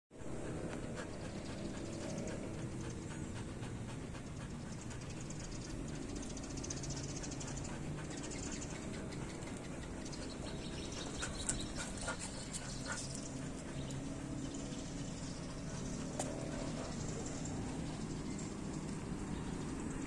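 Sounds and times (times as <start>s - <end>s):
dog panting: 0.2s - 20.0s.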